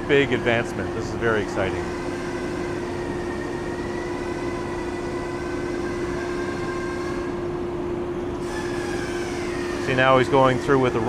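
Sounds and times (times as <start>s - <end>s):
faint high machine tones: 0.0s - 11.0s
machine drone: 0.0s - 11.0s.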